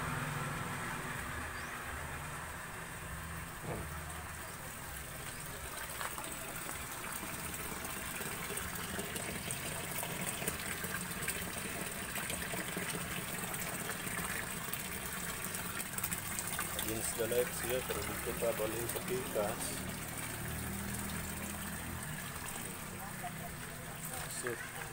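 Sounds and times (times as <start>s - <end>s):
water pouring and splashing: 3.4s - 24.9s.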